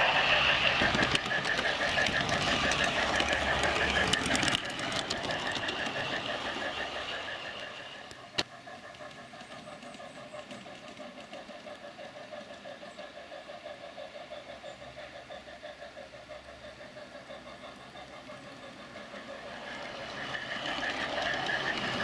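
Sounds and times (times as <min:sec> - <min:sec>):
model train wheels clattering: 0:00.0 - 0:22.0.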